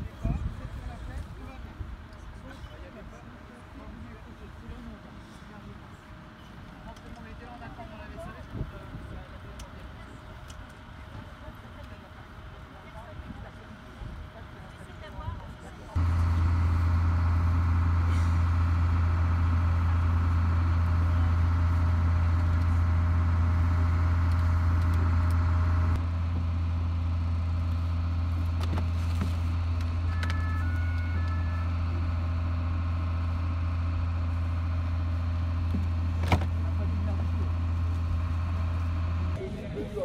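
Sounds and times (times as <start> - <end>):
vehicle engines idling: 0.0 - 40.0.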